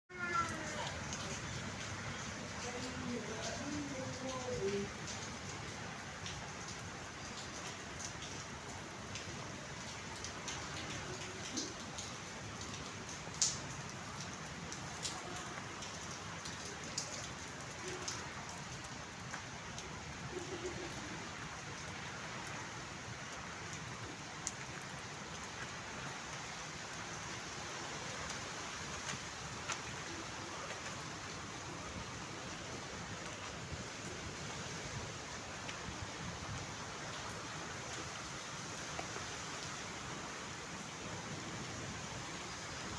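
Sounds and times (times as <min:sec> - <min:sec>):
steady rain falling: 0:00.1 - 0:42.9.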